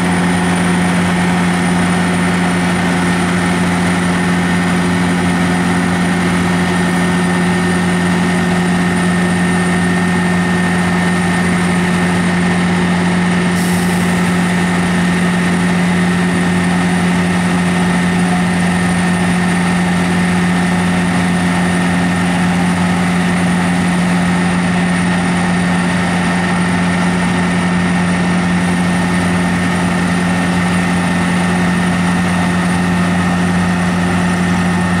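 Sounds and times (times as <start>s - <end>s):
paving machine engine drone: 0.0s - 35.0s.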